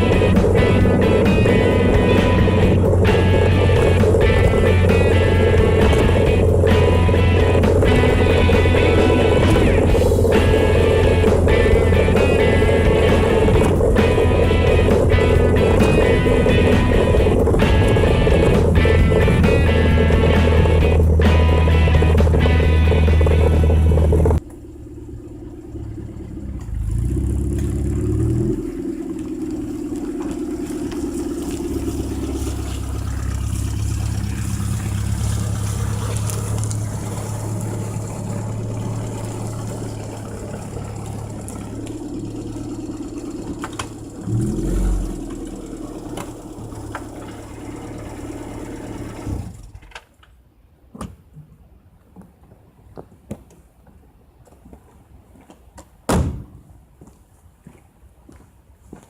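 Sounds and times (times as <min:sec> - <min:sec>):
car engine running: 0:00.0 - 0:49.8.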